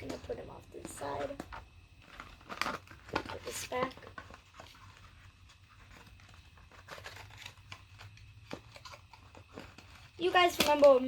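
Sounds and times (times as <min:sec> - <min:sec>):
packaging crinkling: 0:00.0 - 0:11.0
light clicks of packaging: 0:01.2 - 0:11.0.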